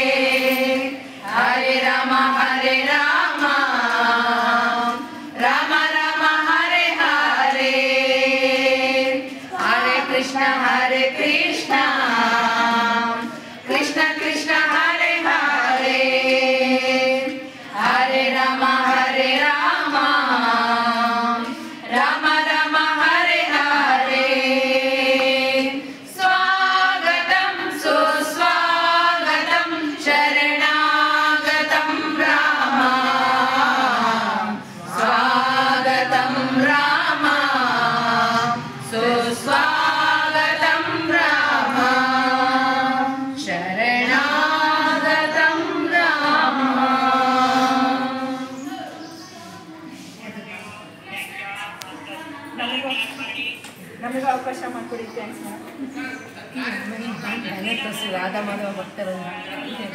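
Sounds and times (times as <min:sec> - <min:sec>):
women singing in unison: 0:00.0 - 0:49.0.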